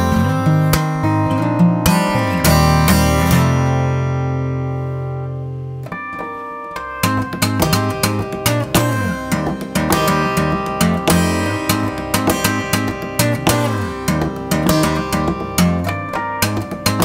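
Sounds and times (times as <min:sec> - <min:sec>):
fingerstyle acoustic guitar: 0:00.0 - 0:17.0.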